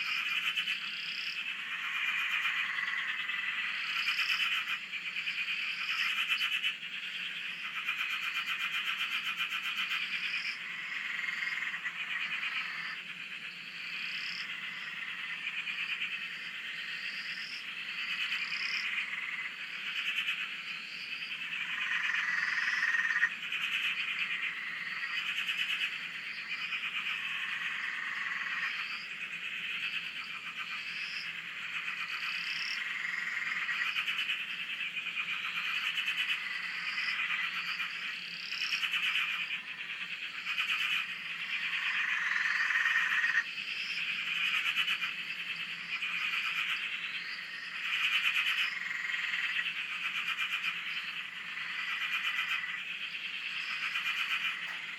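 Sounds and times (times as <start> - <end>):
frogs chorus trilling: 0.0 - 54.9.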